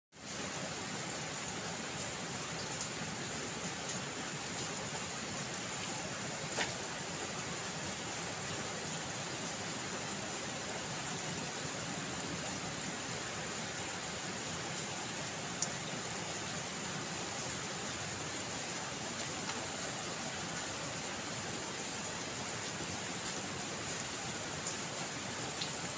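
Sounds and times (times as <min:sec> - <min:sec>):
steady rain: 0:00.1 - 0:25.9.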